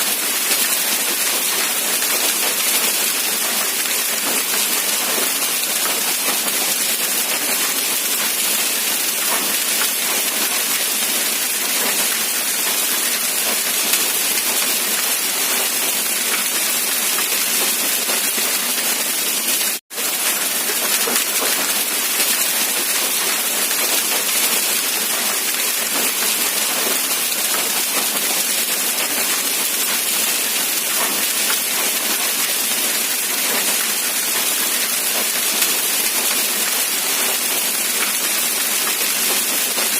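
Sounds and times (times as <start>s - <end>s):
dense rain hiss: 0.1s - 39.9s.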